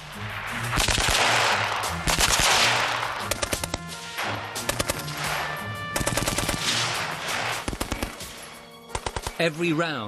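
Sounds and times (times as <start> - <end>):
machine gun firing bursts: 0.7 - 3.9, 4.6 - 9.5.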